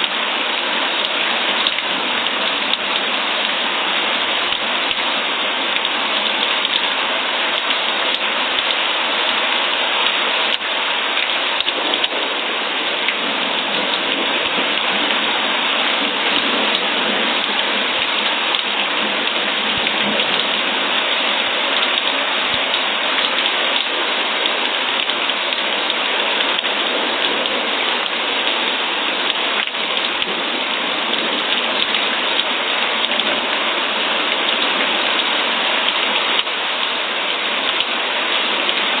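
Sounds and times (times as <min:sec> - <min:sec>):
dense rain pattering: 0:00.0 - 0:39.0.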